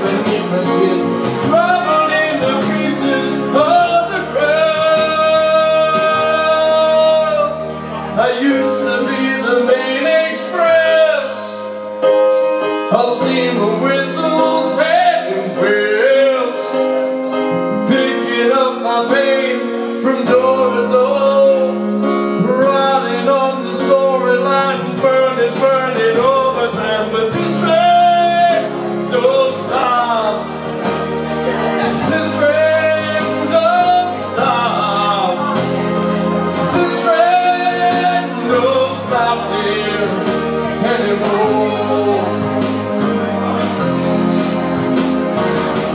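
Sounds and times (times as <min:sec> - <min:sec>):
man singing into a microphone: 0:00.0 - 0:44.8
instrumental music with steady beat: 0:00.0 - 0:45.9.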